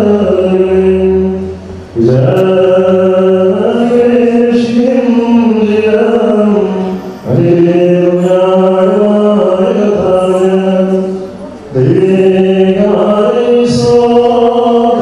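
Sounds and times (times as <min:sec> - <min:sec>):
voices chanting a hymn: 0:00.0 - 0:15.0.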